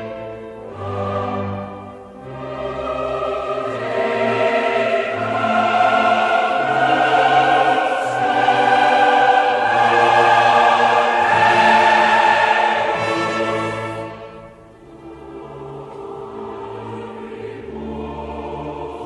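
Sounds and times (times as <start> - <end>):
slow choral orchestral music: 0.0 - 19.0.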